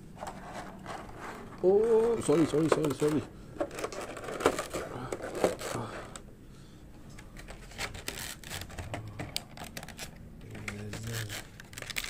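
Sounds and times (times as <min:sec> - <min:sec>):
hard plastic clicking and rustling: 0:00.2 - 0:06.3, 0:07.1 - 0:12.0.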